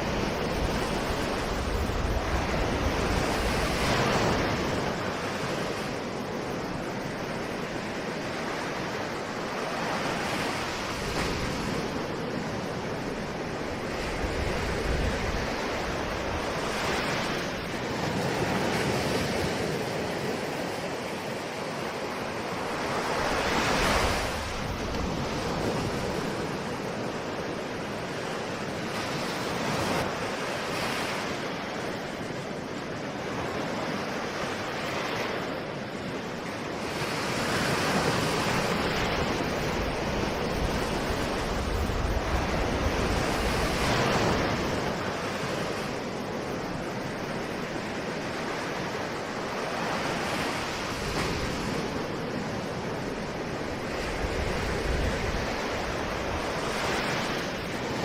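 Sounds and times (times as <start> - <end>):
ocean waves breaking: 0.0 - 58.0
wind: 0.0 - 58.0.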